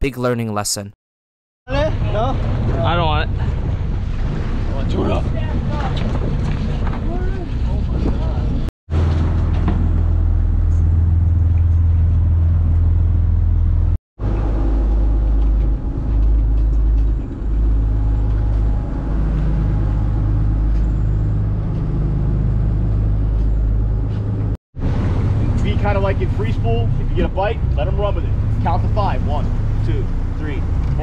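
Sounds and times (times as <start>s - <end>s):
boat engine rumbling: 1.7s - 31.0s.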